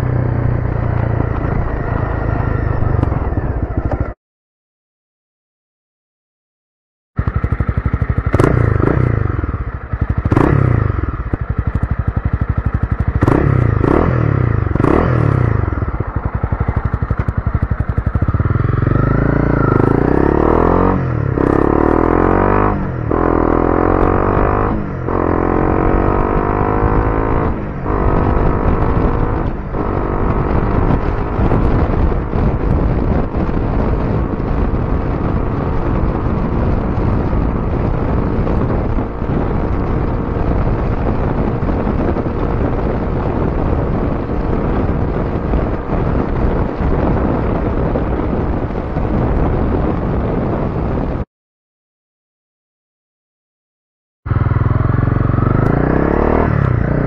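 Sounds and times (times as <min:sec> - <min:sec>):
motorcycle engine accelerating: 0:00.0 - 0:04.2, 0:07.2 - 0:51.3, 0:54.3 - 0:57.0
motorcycle throttle blips: 0:07.2 - 0:51.2, 0:54.3 - 0:57.0.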